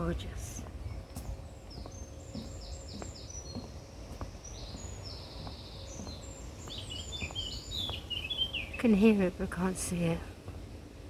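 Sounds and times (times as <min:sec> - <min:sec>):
small songbird singing: 0:00.0 - 0:10.2.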